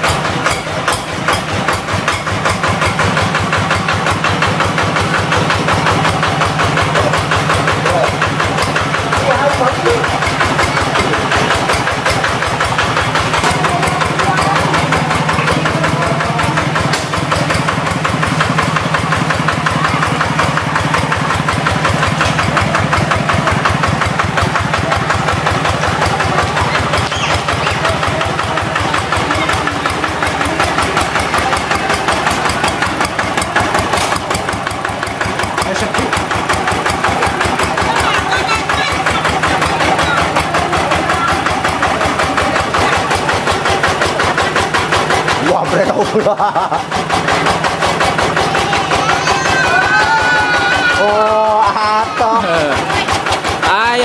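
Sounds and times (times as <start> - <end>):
hand tractor engine running: 0.0 - 54.0.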